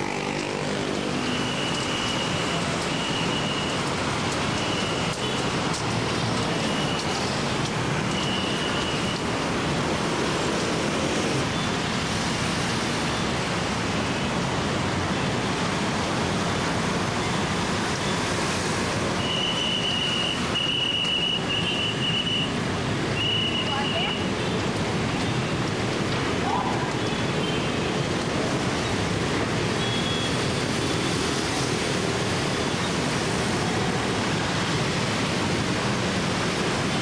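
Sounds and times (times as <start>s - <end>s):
bus engines: 0.0s - 37.0s
motorcycle engines: 0.0s - 37.0s
tyres on the road: 0.0s - 37.0s.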